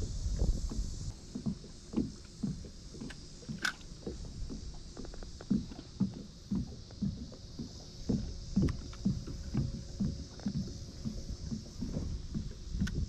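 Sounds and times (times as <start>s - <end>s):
water slapping against kayak hull: 0.0s - 13.0s.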